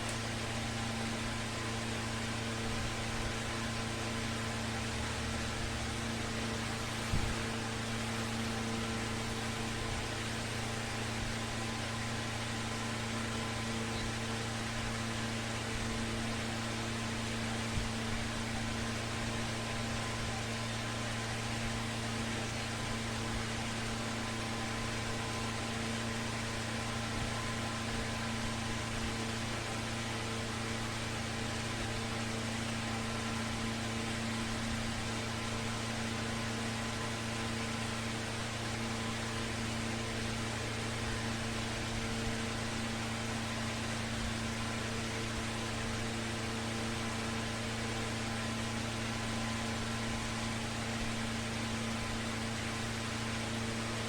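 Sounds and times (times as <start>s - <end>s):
ceiling fan motor hum: 0.0s - 54.0s.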